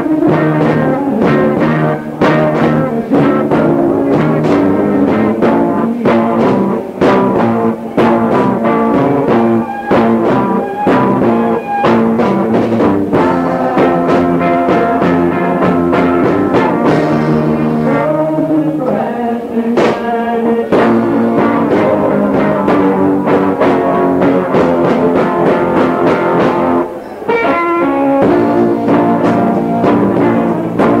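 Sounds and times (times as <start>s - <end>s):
rock band playing live: 0.0s - 19.0s, 19.7s - 31.0s.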